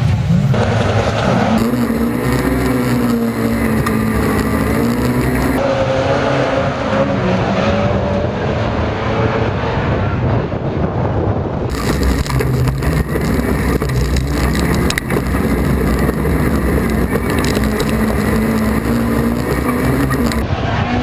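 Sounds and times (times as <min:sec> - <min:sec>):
racing cars pulling away: 0:00.0 - 0:10.8, 0:11.7 - 0:21.0
car engine at full throttle: 0:00.0 - 0:21.0.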